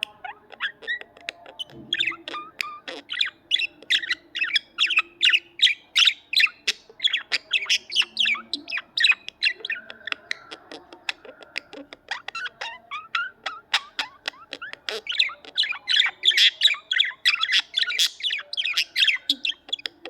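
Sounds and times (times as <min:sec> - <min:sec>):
budgerigars chattering: 0:00.0 - 0:20.0.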